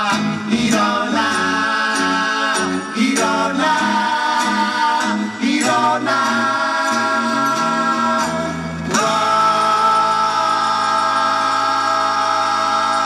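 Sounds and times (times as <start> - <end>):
acoustic guitar: 0.0 - 13.0
electric bass: 0.0 - 13.0
keyboard: 0.0 - 13.0
voices singing in harmony: 0.0 - 13.0.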